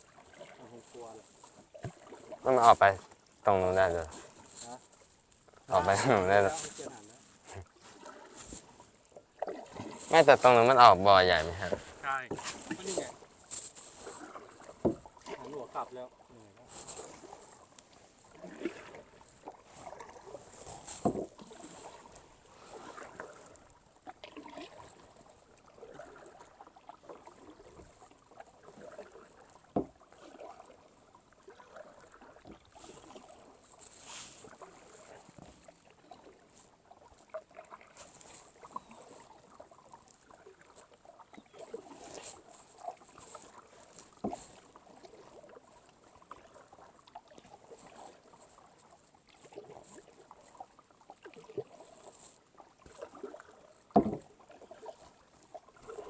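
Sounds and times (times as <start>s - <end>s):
paddles swishing through water: 0.0s - 56.0s.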